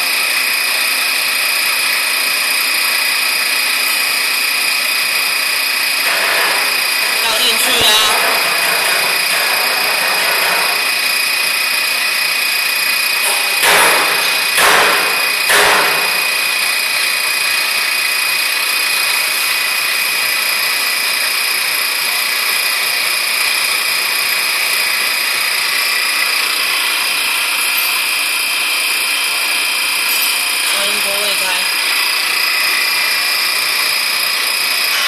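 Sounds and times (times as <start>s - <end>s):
vibrating sieve machine humming: 1.2s - 35.0s.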